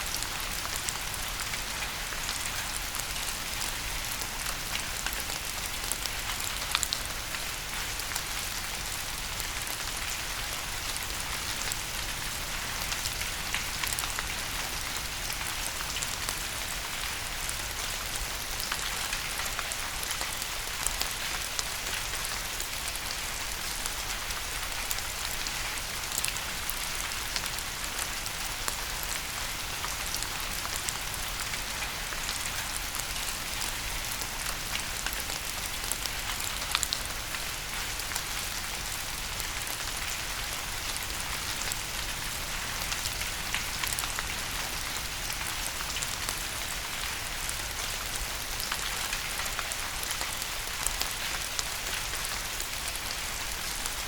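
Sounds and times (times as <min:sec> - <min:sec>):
steady rain pattering: 0:00.0 - 0:54.0.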